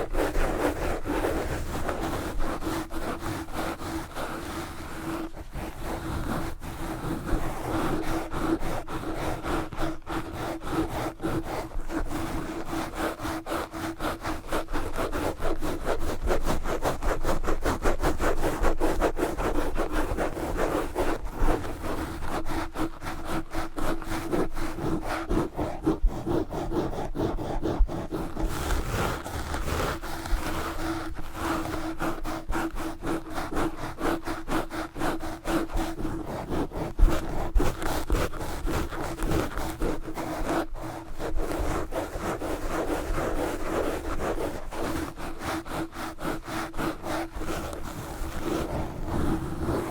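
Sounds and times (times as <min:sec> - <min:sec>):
gloves scraping microphone: 0:00.0 - 0:17.4, 0:18.0 - 0:49.9.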